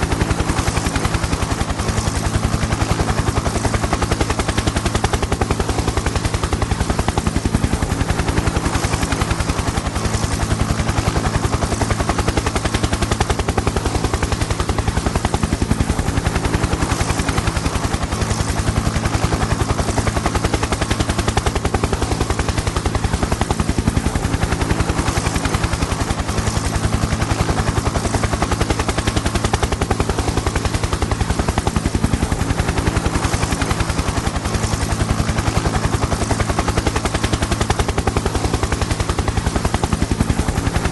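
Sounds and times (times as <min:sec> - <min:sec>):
helicopter engine noise: 0:00.0 - 0:40.9
helicopter rotor chop: 0:00.0 - 0:40.9.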